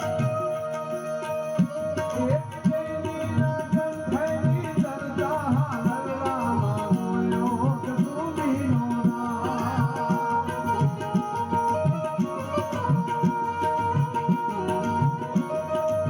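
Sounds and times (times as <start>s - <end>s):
tabla strokes: 0.0s - 16.0s
wavering melody: 0.0s - 16.0s.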